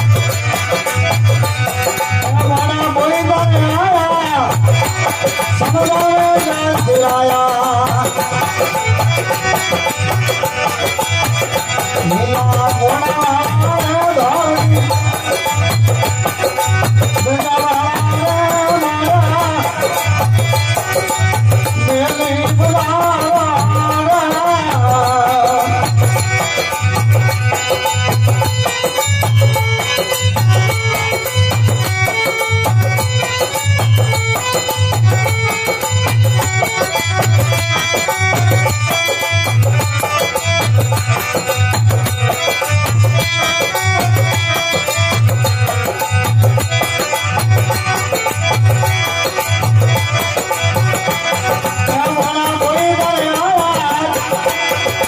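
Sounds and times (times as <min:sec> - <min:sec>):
folk devotional melody: 0:00.0 - 0:55.0
quick high percussion: 0:00.0 - 0:55.0.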